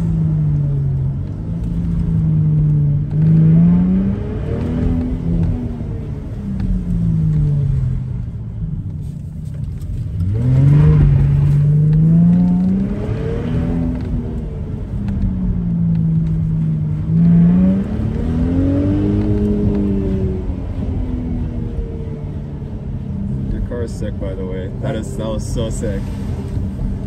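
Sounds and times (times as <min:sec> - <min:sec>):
car engine revving: 0:00.0 - 0:08.7, 0:09.7 - 0:27.0.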